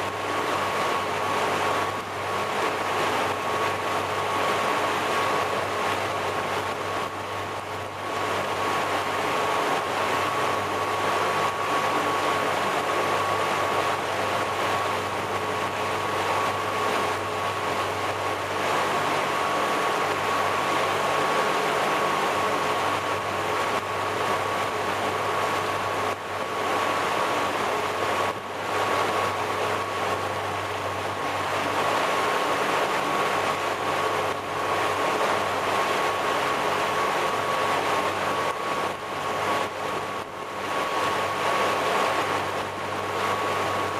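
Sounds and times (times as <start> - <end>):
rush of churning wake water: 0.0 - 43.9.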